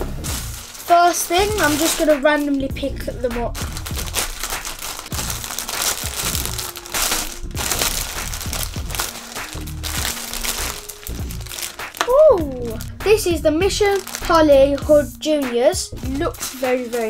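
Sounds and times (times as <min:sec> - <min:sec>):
quiet background music: 0:00.0 - 0:17.0
plastic bag crinkling: 0:00.2 - 0:13.1, 0:13.7 - 0:14.9, 0:16.1 - 0:17.0.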